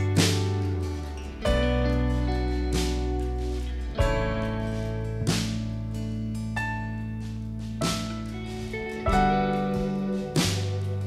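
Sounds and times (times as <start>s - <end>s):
acoustic guitar chords: 0.0s - 11.0s
sustained keyboard and low notes: 0.0s - 11.0s.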